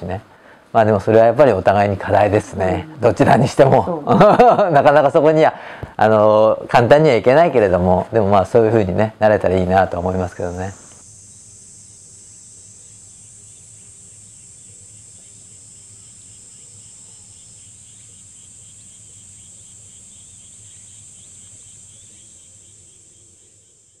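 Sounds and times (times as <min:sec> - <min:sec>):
cricket chirping: 0:00.0 - 0:06.2, 0:06.8 - 0:24.0
insects droning: 0:00.0 - 0:24.0.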